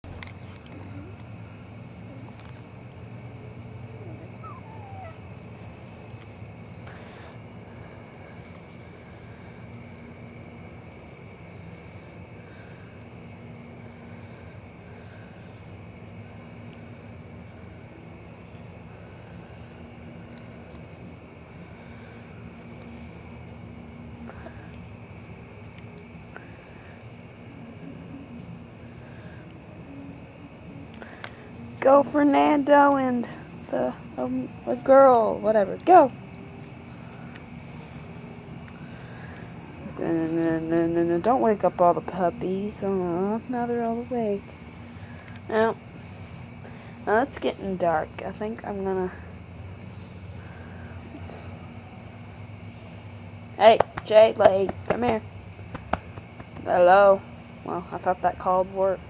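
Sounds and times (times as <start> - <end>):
insect chirps: 0.0 - 59.0
insect high-pitched trill: 0.1 - 59.0.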